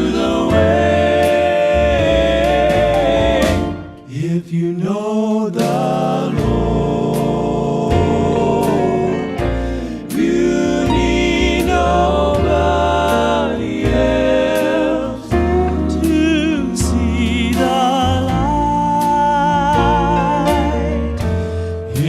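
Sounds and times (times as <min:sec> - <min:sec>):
low bass line: 0:00.0 - 0:04.1, 0:06.3 - 0:22.0
steady beat: 0:00.0 - 0:04.1, 0:05.6 - 0:21.4
male quartet singing in harmony: 0:00.0 - 0:22.0.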